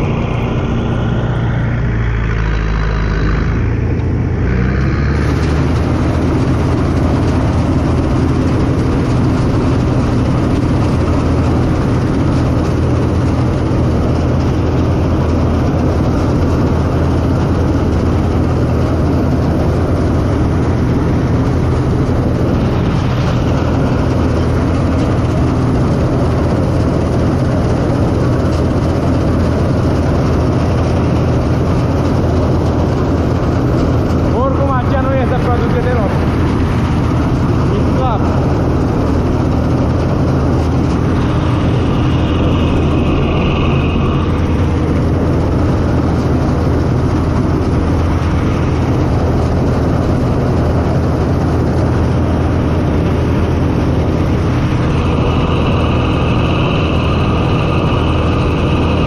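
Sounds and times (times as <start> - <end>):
combine harvester engine and machinery: 0.0 - 59.0.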